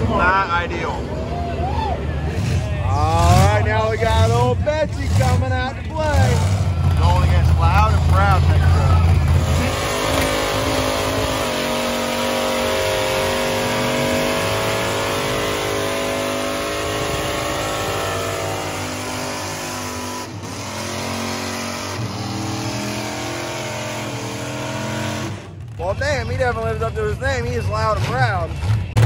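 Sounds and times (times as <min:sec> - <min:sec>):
truck engine at high revs: 0:02.0 - 0:29.0.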